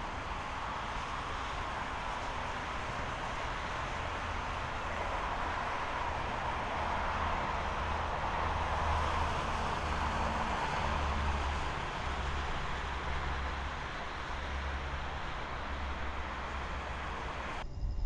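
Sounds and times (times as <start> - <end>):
distant road traffic: 0.0 - 17.8.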